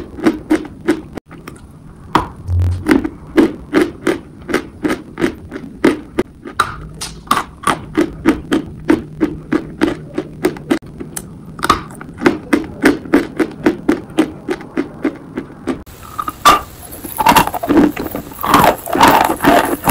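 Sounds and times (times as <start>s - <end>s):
chewing dry crunches: 0.0s - 1.7s, 2.7s - 19.9s.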